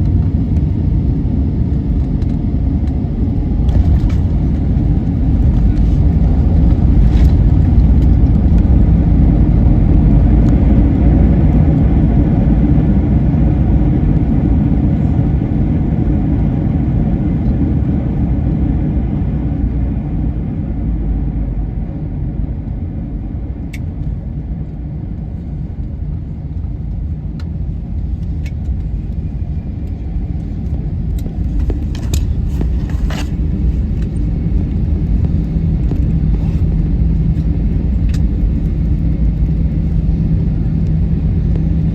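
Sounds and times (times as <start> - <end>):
jet engine and airflow rumble: 0.0 - 41.9.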